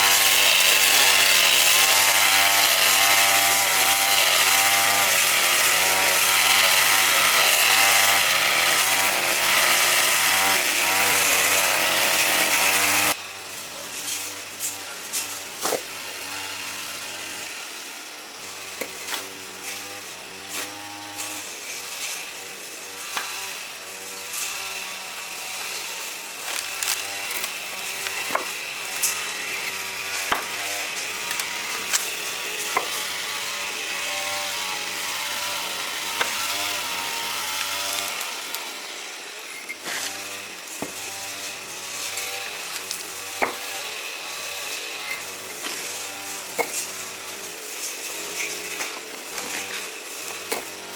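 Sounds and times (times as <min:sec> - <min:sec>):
hand tool scraping: 0:00.0 - 0:50.9.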